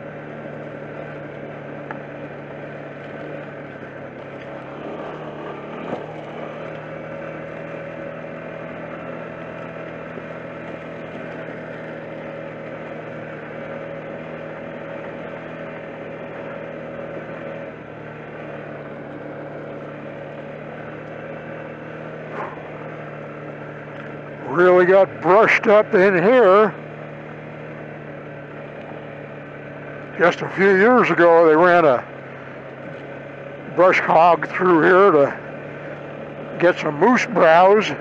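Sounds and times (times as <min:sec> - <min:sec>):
quad engine running: 0:00.0 - 0:38.0.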